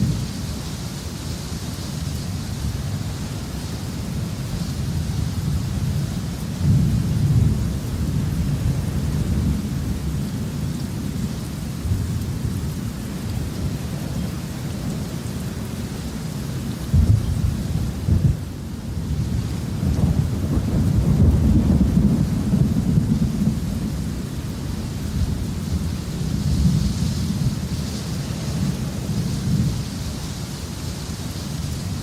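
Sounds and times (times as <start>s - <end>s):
low rolling thunder: 0.0s - 0.6s, 4.1s - 30.3s
steady rain: 0.0s - 32.0s.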